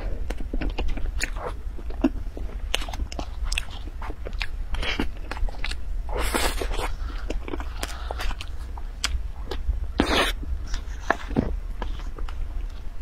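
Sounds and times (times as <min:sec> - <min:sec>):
chewing with mouth clicks: 0:00.2 - 0:12.9.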